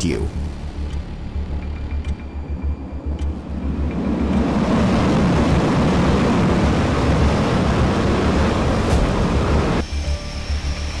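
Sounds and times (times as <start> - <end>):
fighter jet engines rumbling: 0.0 - 11.0.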